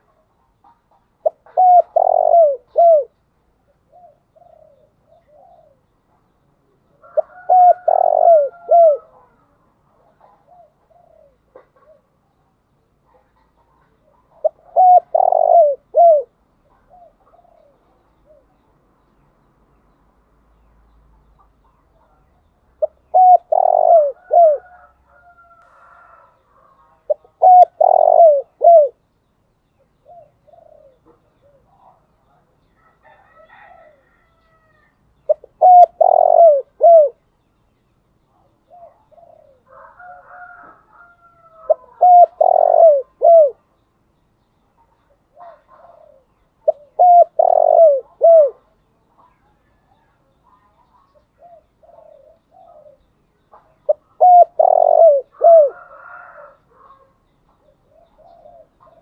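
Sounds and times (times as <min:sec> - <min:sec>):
dove cooing: 0:00.0 - 0:06.2, 0:06.9 - 0:12.3, 0:13.0 - 0:18.7, 0:21.8 - 0:29.0, 0:30.0 - 0:37.2, 0:38.3 - 0:43.7, 0:45.1 - 0:59.0
faint bird calls: 0:00.0 - 0:19.3, 0:21.0 - 0:29.1, 0:29.8 - 0:37.4, 0:38.3 - 0:43.9, 0:44.6 - 0:59.0.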